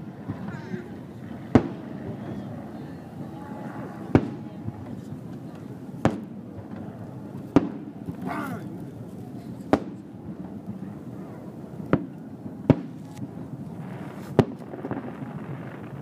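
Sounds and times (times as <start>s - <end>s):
crowd murmuring: 0.0s - 16.0s.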